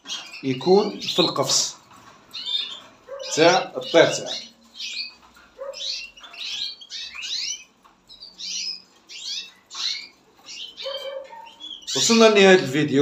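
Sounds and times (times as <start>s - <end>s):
finches chirping and singing: 0.0s - 13.0s.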